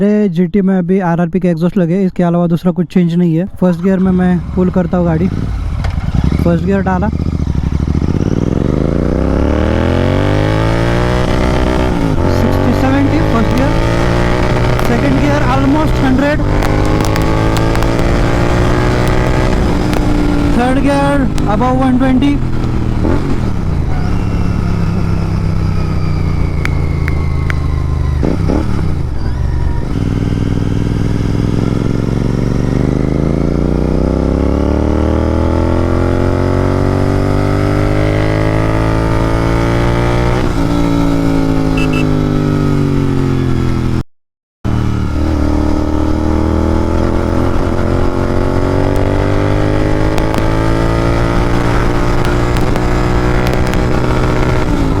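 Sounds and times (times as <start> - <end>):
motorcycle engine accelerating: 3.8 - 44.0, 44.6 - 55.0.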